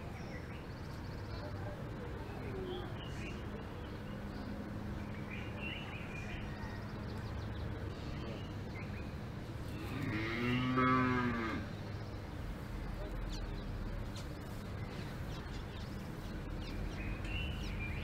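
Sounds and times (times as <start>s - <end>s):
low outdoor background: 0.0s - 18.0s.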